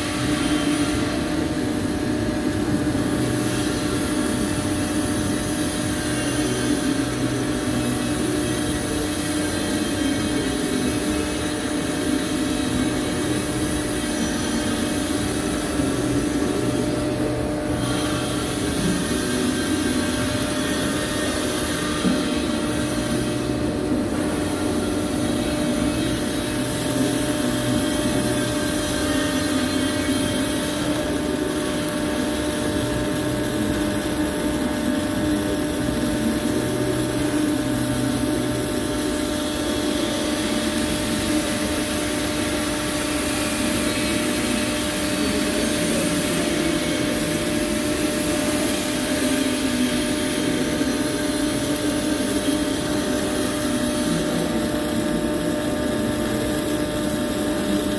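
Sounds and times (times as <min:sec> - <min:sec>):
machine drone humming: 0:00.0 - 0:57.9.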